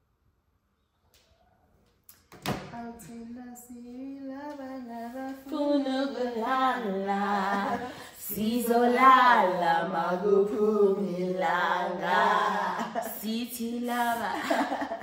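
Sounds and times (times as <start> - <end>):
woman singing long held notes: 2.8 - 14.8.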